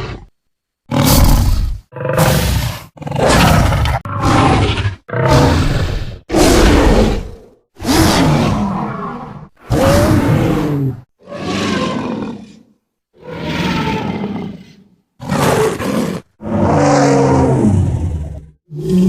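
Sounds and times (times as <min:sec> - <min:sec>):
dinosaur roars: 0:00.9 - 0:19.0.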